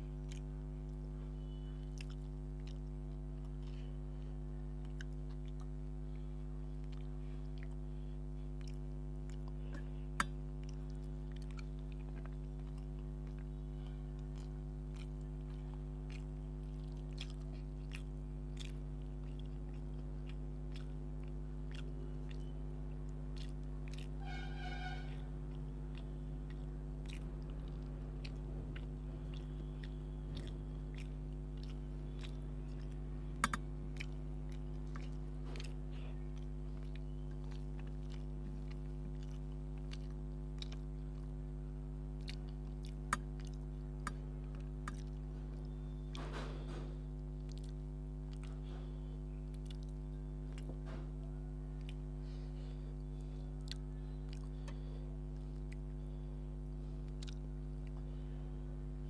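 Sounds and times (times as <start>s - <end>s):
low electrical hum: 0.0s - 59.0s
man chewing and mouth sounds: 0.0s - 59.0s.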